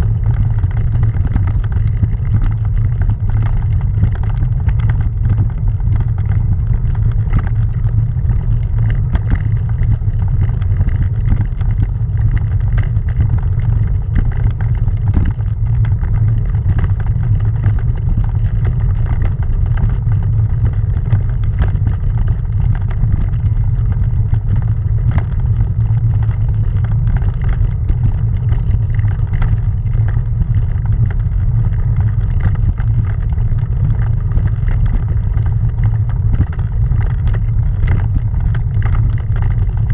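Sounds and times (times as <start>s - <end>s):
bicycle tyres rumbling on cobbles: 0.0s - 39.9s
small rattling clicks: 0.0s - 39.9s.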